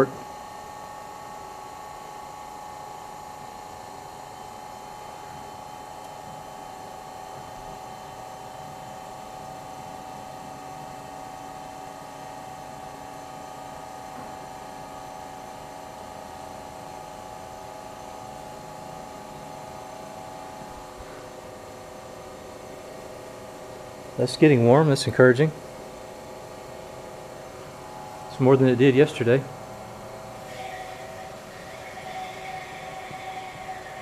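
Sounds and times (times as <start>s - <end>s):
refrigerator compressor humming: 0.0s - 34.0s.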